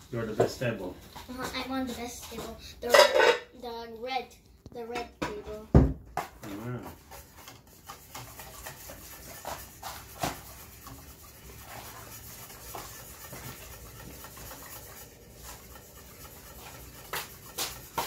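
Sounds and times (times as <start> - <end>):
whisk scraping metal pot: 0.0 - 4.1, 6.3 - 18.0.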